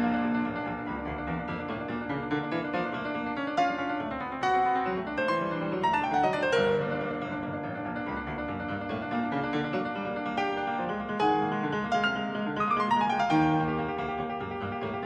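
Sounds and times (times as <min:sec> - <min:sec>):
solo grand piano: 0:00.0 - 0:15.0.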